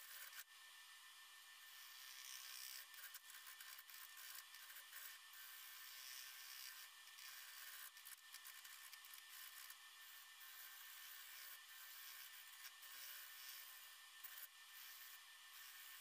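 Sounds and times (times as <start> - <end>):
wood scraping on a lathe: 1.7 - 16.0.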